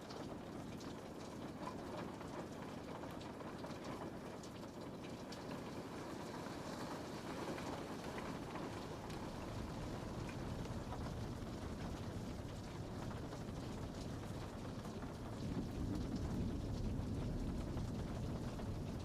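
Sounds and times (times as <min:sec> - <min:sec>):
rain pattering on window: 0:00.0 - 0:19.0.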